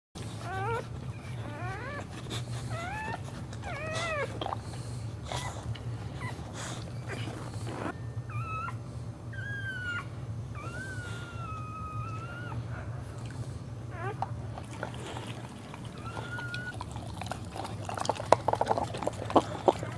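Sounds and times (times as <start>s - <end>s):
dog whining: 0.2s - 19.9s.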